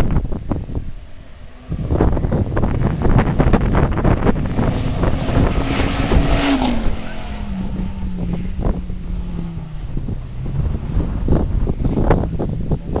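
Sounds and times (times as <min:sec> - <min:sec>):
wind buffeting microphone: 0:00.0 - 0:13.0
rally car engine passing: 0:01.0 - 0:12.5.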